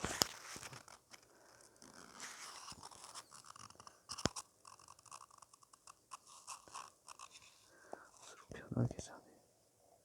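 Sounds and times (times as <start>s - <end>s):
faint scratchy rustling: 0.0s - 8.7s.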